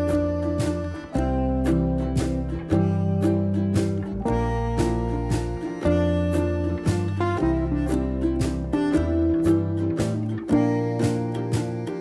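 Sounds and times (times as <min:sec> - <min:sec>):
acoustic guitar music with bass: 0:00.0 - 0:12.0.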